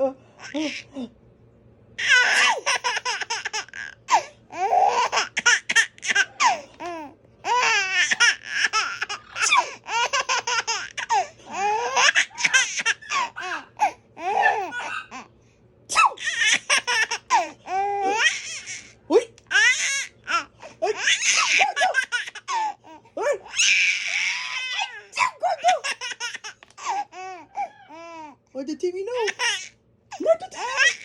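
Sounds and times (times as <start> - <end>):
baby laughing: 2.0 - 15.3, 16.1 - 28.3, 29.2 - 31.0.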